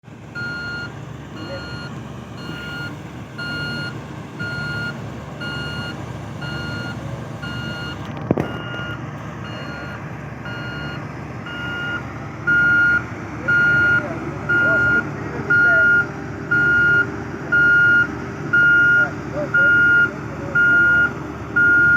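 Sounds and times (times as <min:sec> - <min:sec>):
diesel engine rumble: 0:00.0 - 0:21.9
reversing alarm beeping: 0:00.4 - 0:21.9.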